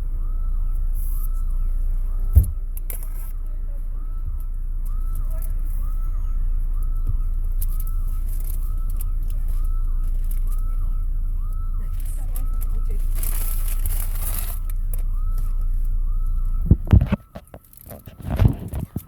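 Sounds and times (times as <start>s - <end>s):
alarm siren wailing: 0.0s - 19.0s
car engine idling: 0.0s - 19.0s.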